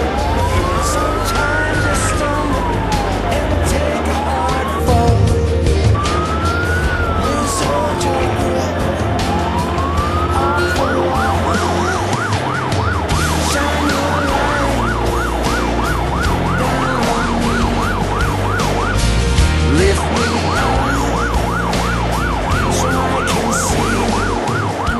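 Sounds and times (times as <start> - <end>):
engine running: 0.0 - 24.9
fire engine siren wailing and yelping: 0.0 - 24.9.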